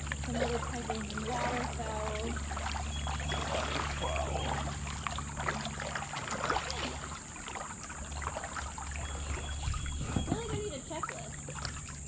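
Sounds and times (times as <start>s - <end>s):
paddle splashes: 0.0s - 12.0s
water trickling and dripping: 0.0s - 12.0s.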